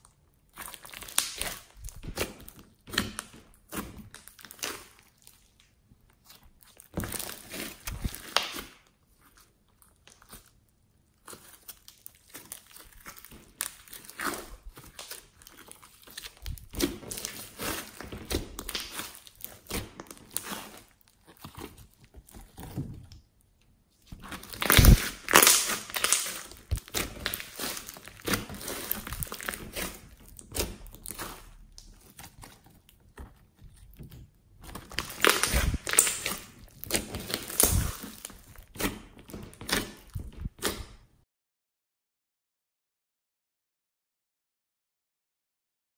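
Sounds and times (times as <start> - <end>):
slime crackling and popping: 0.0 - 23.3, 24.0 - 41.0.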